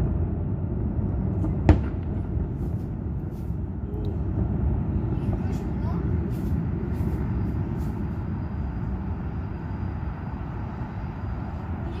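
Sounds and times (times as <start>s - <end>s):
low rumble of city background: 0.0s - 12.0s.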